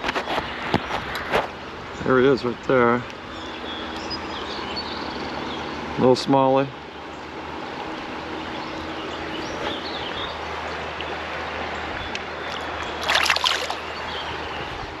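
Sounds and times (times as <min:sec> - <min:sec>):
creek water flowing: 0:00.1 - 0:15.0.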